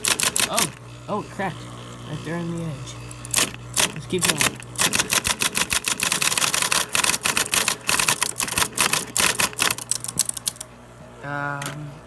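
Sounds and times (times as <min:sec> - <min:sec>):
electric typewriter clacking: 0:00.0 - 0:10.7.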